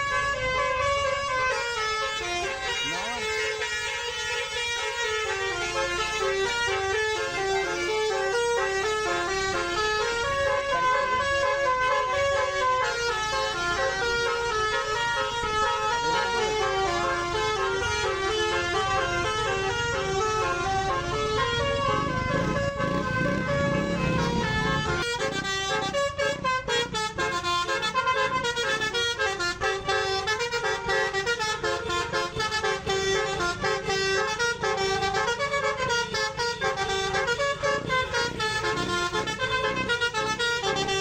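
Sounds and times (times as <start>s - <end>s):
low engine rumble: 0.0s - 41.0s
multi-tone bus horn melody: 0.0s - 41.0s.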